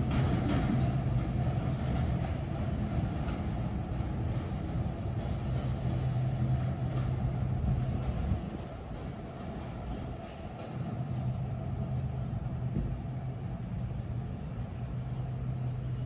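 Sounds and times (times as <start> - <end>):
electric train hum: 0.0 - 16.0
wheels rumbling on rail: 0.0 - 16.0.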